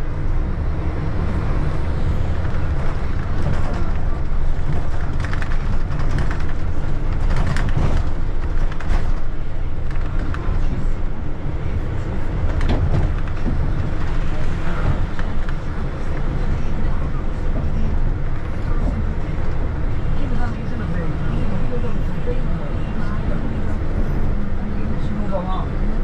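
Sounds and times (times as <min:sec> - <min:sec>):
vehicle rumble: 0:00.0 - 0:26.0.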